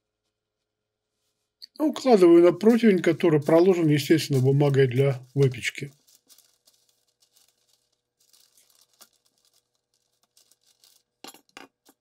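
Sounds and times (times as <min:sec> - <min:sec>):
faint rustling of parchment: 0:00.1 - 0:11.2.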